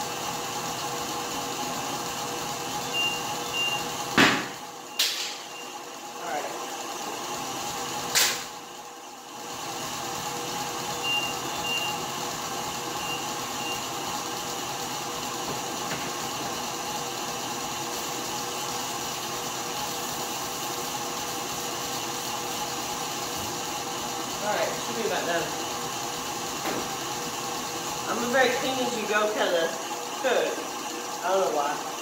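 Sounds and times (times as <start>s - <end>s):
stand mixer running: 0.0s - 32.0s.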